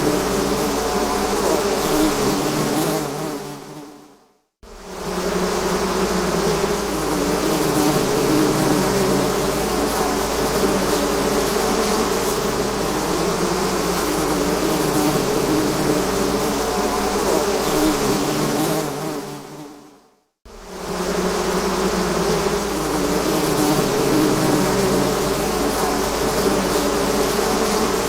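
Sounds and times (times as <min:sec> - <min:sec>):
bees buzzing: 0:00.0 - 0:03.8, 0:04.8 - 0:19.8, 0:20.5 - 0:28.0.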